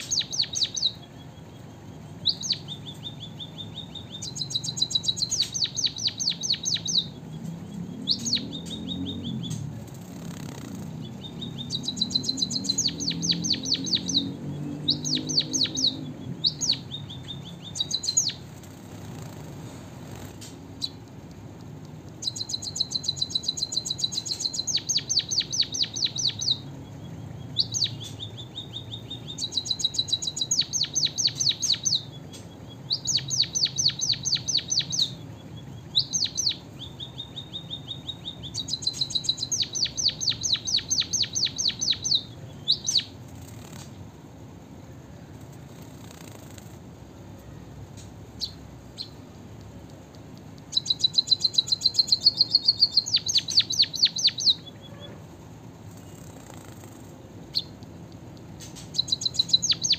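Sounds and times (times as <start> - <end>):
bird singing with fast trills: 0.0 - 59.9.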